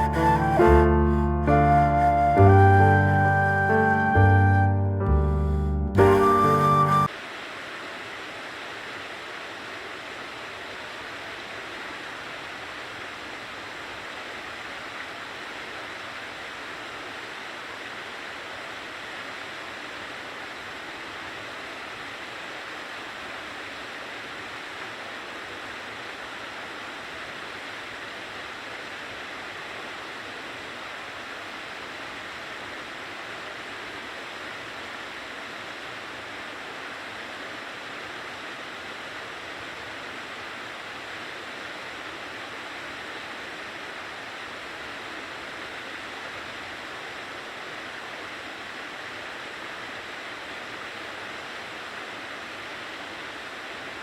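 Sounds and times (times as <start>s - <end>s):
stream rushing over rocks: 0.0s - 2.6s, 6.3s - 54.0s.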